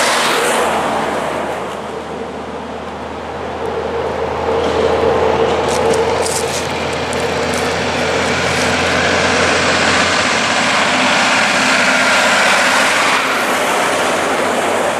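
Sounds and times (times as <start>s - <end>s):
truck diesel engine and tyres: 0.0s - 14.9s.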